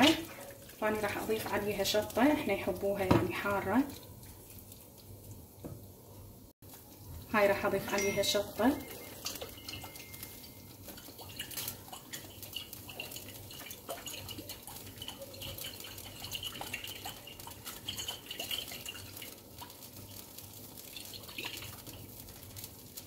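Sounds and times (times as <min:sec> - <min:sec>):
sauce simmering in a frying pan: 0:00.0 - 0:23.0.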